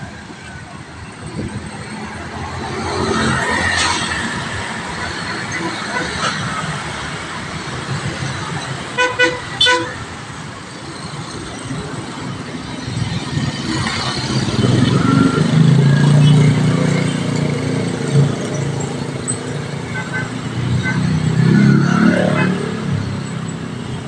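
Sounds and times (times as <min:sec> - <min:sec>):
heavy street traffic: 0:00.0 - 0:24.0.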